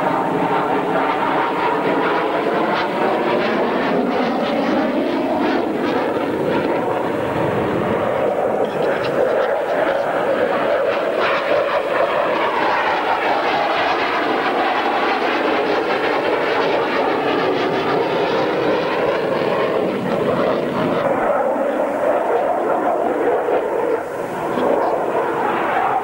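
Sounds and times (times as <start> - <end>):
fighter jet engine: 0.0 - 26.0.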